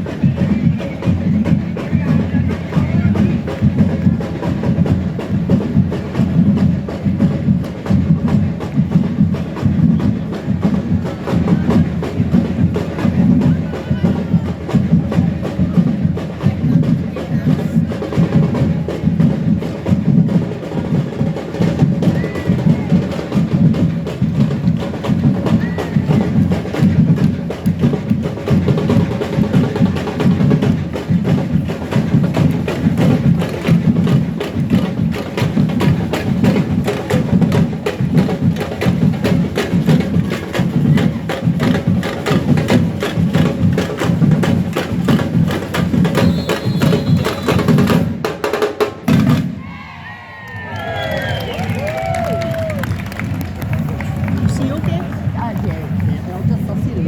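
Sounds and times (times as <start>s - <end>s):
deep drums: 0.0s - 49.8s, 50.7s - 57.0s.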